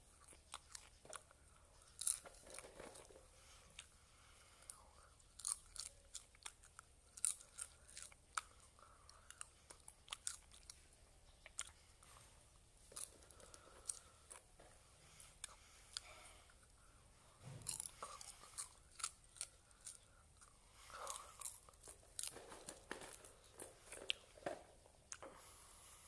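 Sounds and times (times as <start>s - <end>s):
person chewing popcorn: 0.0s - 25.6s.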